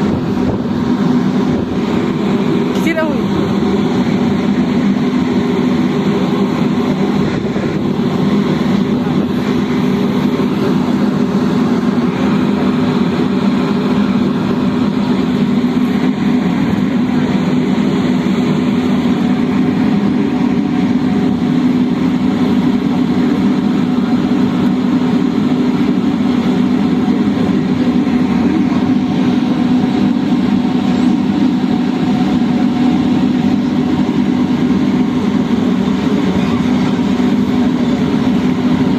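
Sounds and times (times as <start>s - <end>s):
large engine droning: 0.0s - 38.9s.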